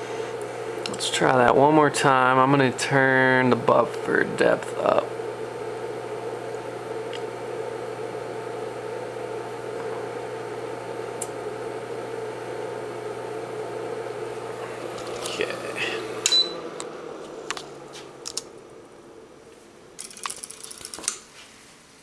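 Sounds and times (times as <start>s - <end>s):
electric motor humming: 0.0s - 21.3s.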